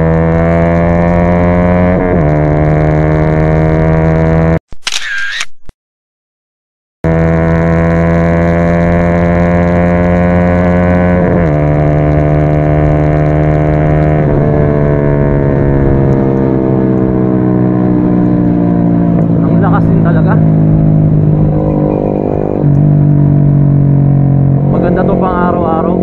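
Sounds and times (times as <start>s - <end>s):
motorcycle engine revving high: 0.0s - 4.6s, 7.1s - 26.0s.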